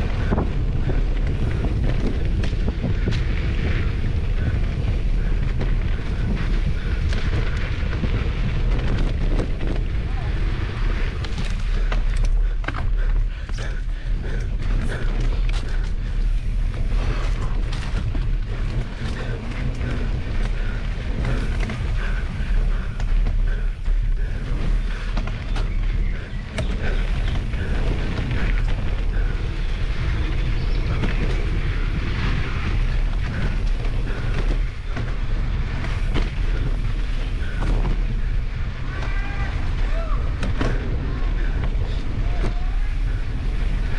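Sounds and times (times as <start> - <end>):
bike rattling over bumps: 0.0 - 43.9
wind buffeting microphone: 0.0 - 43.9.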